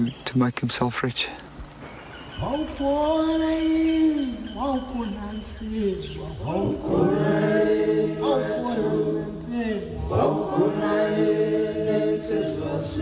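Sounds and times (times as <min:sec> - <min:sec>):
voices chanting held chords: 0:02.3 - 0:13.0.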